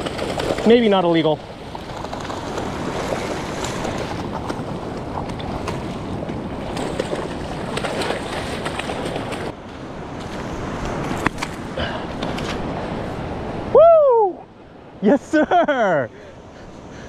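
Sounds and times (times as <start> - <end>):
wind buffeting microphone: 0.0 - 15.0
ocean surf washing on beach: 0.0 - 17.0.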